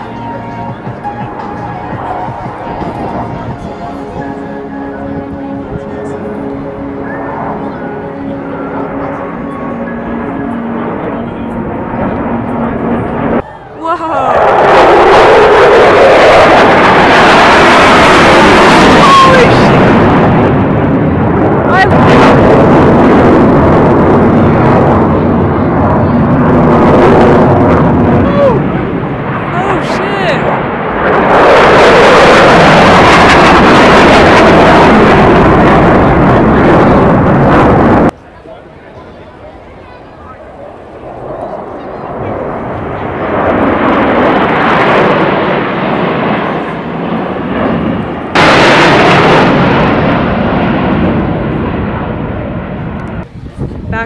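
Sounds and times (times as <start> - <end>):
jet aircraft flying low: 0.0 - 54.0.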